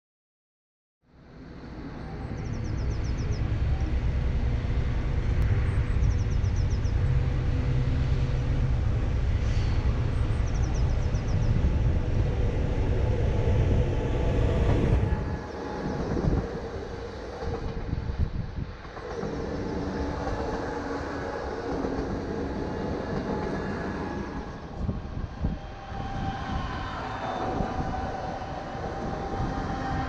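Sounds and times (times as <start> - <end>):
electric train running past: 1.1 - 30.0.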